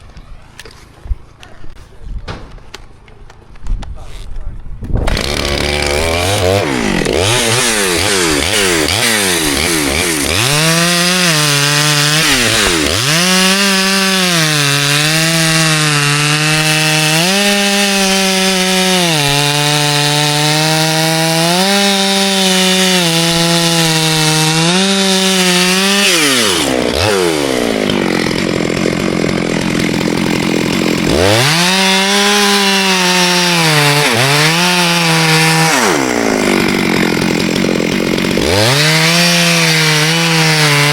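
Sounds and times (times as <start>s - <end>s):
chainsaw cutting wood: 4.9s - 40.9s.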